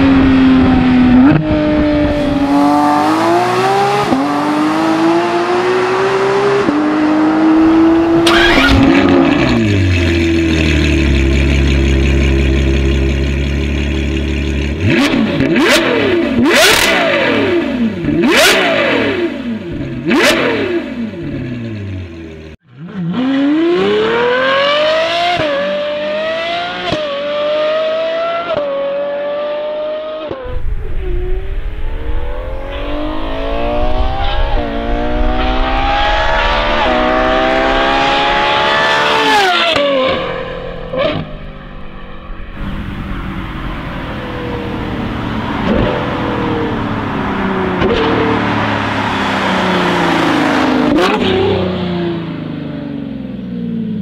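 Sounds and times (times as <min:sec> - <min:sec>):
car accelerating through upshifts: 0:00.0 - 0:11.2, 0:14.7 - 0:21.6, 0:22.8 - 0:54.0
car engine idling and revving: 0:00.0 - 0:54.0
sports car engine at high revs: 0:00.0 - 0:54.0.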